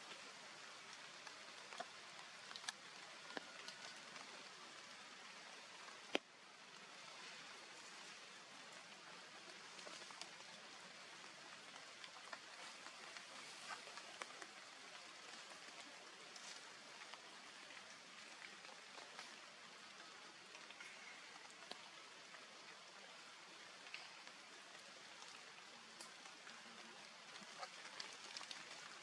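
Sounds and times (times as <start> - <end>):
faint outdoor hiss: 0.0 - 29.0
light ticks: 0.7 - 4.5, 8.7 - 22.9, 23.5 - 29.0.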